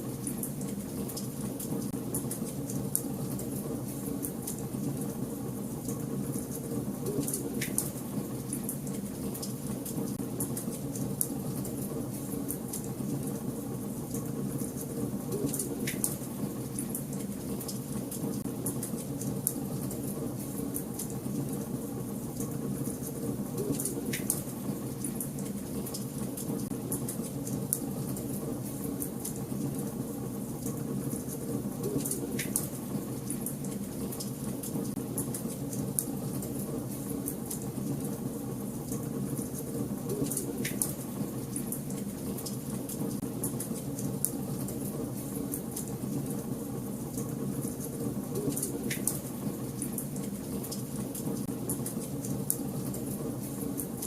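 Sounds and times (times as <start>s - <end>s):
low fire rumble: 0.0s - 54.0s
wood fire crackling: 0.0s - 54.0s.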